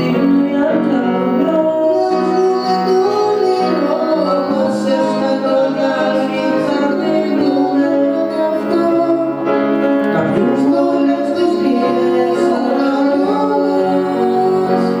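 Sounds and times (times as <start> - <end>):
grand piano: 0.0 - 15.0.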